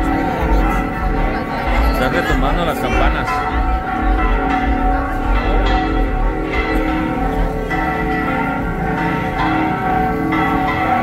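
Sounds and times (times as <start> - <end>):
church bells pealing: 0.0 - 11.0.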